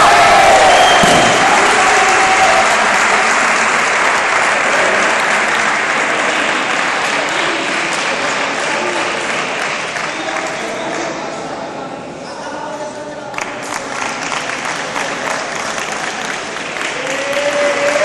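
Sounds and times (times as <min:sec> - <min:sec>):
audience applauding: 0:00.0 - 0:11.1, 0:13.4 - 0:18.0.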